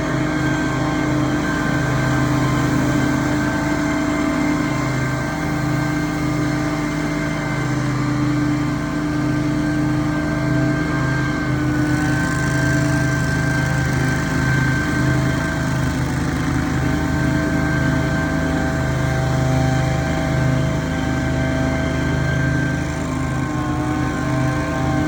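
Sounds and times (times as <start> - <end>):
lawn equipment engine running: 0.0 - 25.0.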